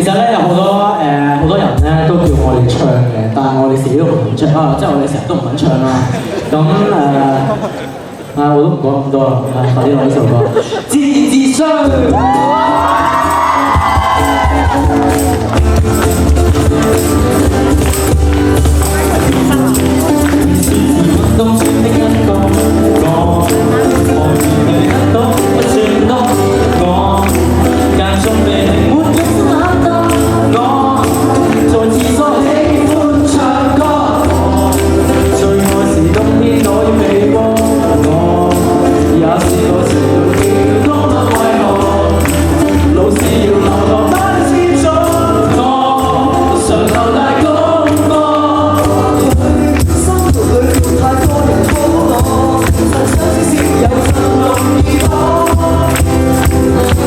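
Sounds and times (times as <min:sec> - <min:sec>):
live pop-rock band: 0:09.9 - 0:57.0
person singing: 0:11.0 - 0:57.0.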